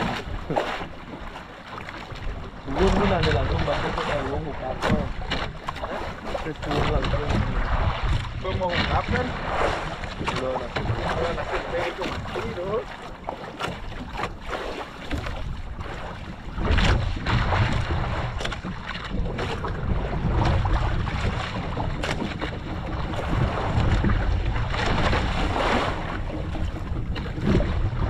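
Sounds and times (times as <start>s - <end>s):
sea washing around boat: 0.0s - 28.0s
wind buffeting microphone: 0.0s - 28.0s.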